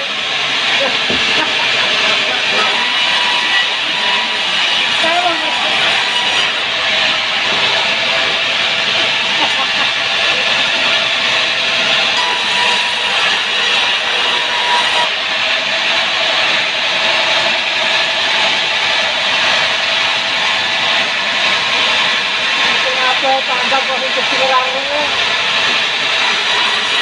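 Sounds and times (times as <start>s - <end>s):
sawmill saw cutting log: 0.0s - 27.0s.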